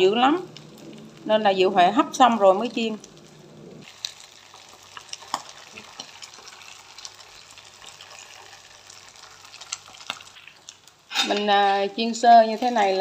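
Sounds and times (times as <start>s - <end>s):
patties sizzling in oil: 0.0s - 13.0s
oil popping and crackling: 0.3s - 11.4s.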